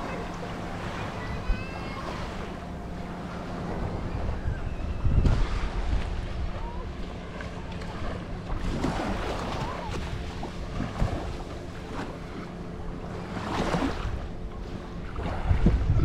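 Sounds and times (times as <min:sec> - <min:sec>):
faint steady hum: 0:00.0 - 0:16.0
wind buffeting microphone: 0:00.2 - 0:12.1, 0:13.8 - 0:16.0.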